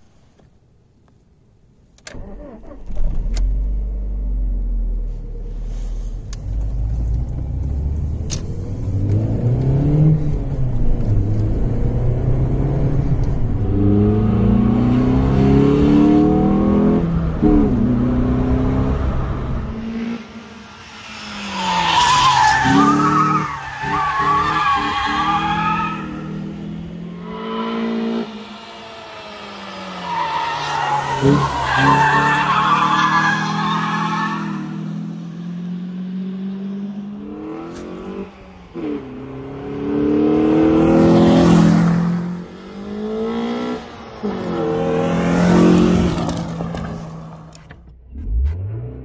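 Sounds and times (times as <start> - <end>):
car engine starting and revving: 2.0 - 49.0
car driving by: 5.4 - 49.0
car accelerating through gears: 6.4 - 47.5.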